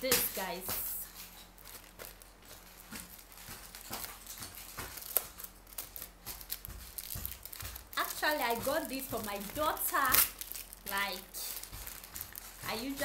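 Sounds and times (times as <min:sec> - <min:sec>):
packaging crinkling and tearing: 0:01.0 - 0:13.0.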